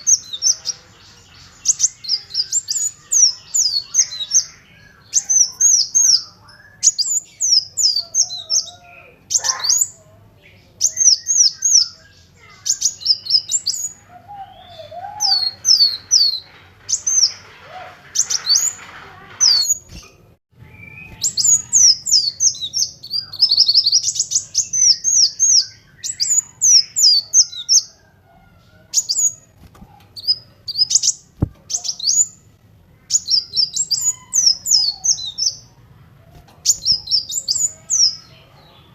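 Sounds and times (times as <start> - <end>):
sunbird singing: 0.0 - 38.9.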